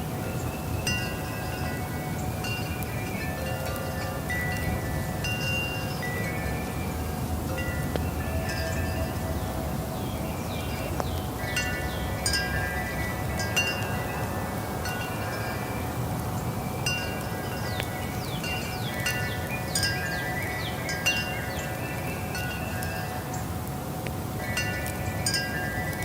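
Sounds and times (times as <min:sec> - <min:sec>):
metal wind chimes ringing: 0:00.0 - 0:23.6, 0:24.4 - 0:26.0
low rush of wind: 0:00.0 - 0:26.0.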